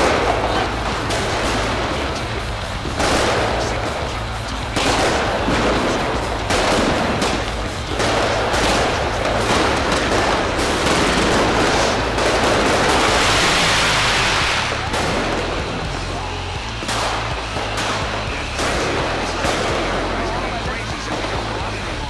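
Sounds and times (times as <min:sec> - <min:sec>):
fireworks banging and crackling: 0:00.0 - 0:22.0.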